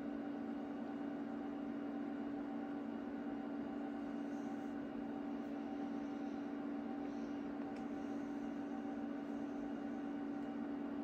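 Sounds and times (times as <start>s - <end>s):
cooling fans: 0.0s - 11.0s
electrical hum: 0.0s - 11.0s.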